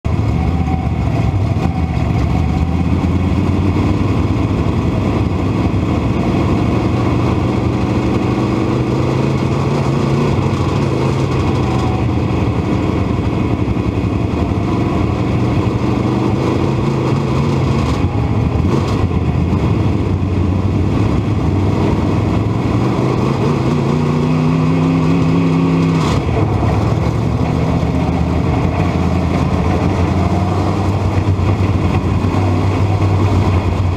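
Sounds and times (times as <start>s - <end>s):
race car engine running hard: 0.0s - 33.9s.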